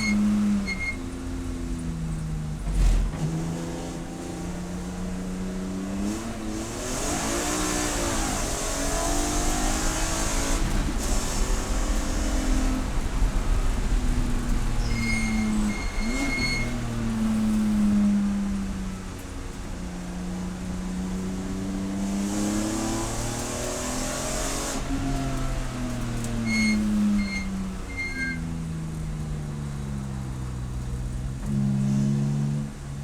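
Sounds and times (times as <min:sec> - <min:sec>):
race car engine running hard: 0:01.4 - 0:27.8.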